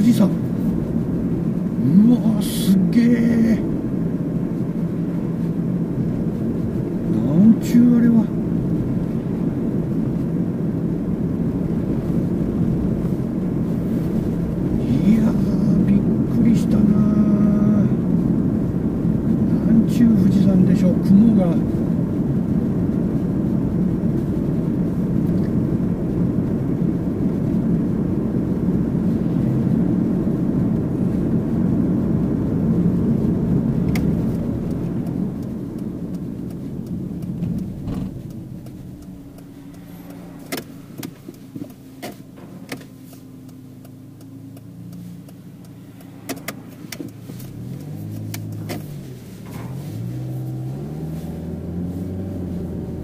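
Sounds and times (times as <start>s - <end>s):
car engine and tyre noise: 0.0s - 53.0s.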